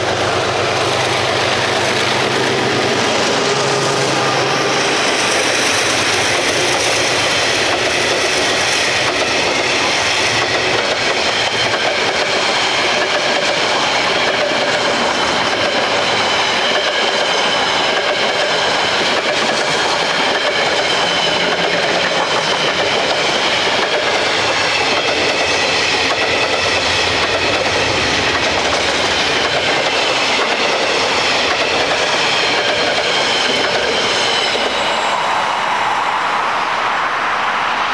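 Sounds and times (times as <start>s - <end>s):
freight train wagons rolling: 0.0s - 35.8s
steel wheels ringing on rails: 0.0s - 35.9s.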